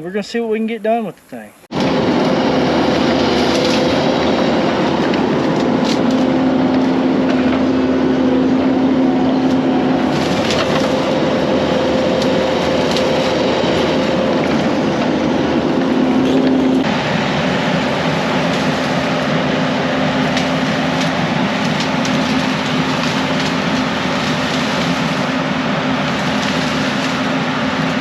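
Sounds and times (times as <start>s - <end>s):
diesel engine running: 1.7s - 28.0s.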